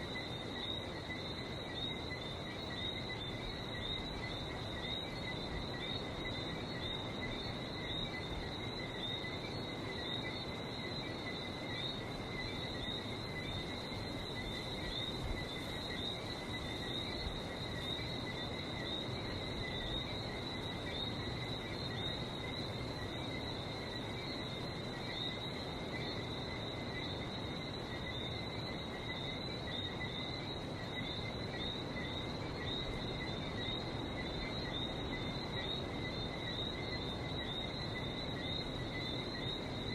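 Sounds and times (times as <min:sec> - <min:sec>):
frogs whistling chirps: 0:00.0 - 0:39.9.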